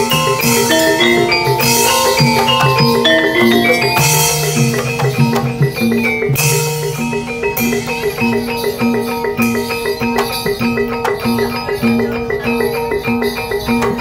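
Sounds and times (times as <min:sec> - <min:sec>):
drums: 0:00.0 - 0:14.0
metallophones ringing melody: 0:00.0 - 0:14.0.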